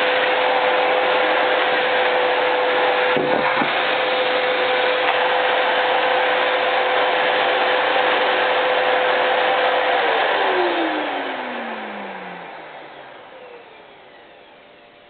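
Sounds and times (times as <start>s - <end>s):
vacuum cleaner whine and rushing air: 0.0s - 15.0s.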